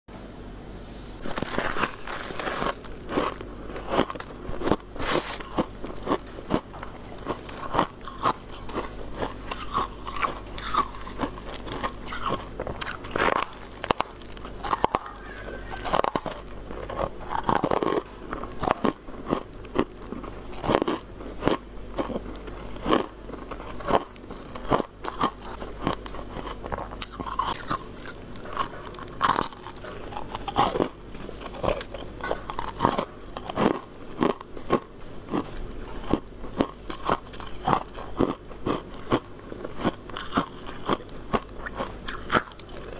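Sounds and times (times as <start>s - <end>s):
frost crunching bites: 1.2s - 42.9s.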